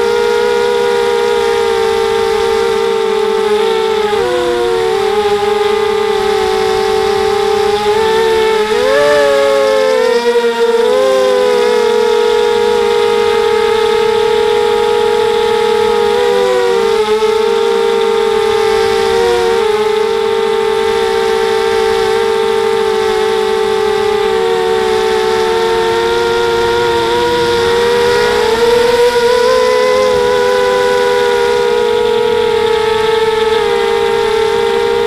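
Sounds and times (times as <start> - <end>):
drone motors and propellers whining: 0.0 - 35.0.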